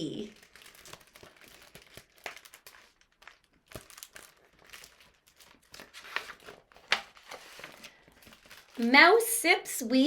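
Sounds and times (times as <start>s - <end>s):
picture book pages rustling: 0.1s - 9.3s.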